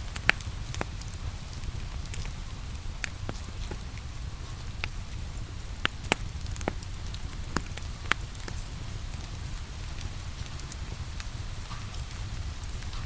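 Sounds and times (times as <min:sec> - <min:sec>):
rain hiss: 0:00.0 - 0:13.0
wood fire crackling and popping: 0:00.0 - 0:13.0.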